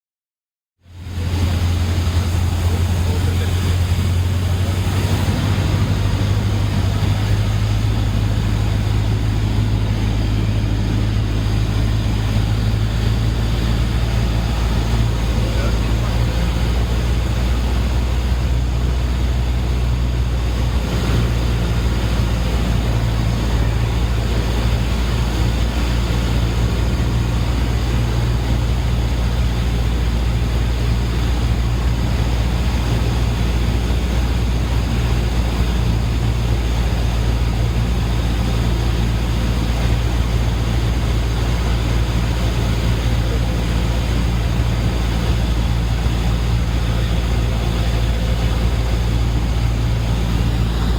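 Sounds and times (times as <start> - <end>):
airplane engine and propeller droning: 0.8 - 50.9
rushing noise: 1.1 - 28.6, 33.4 - 50.9.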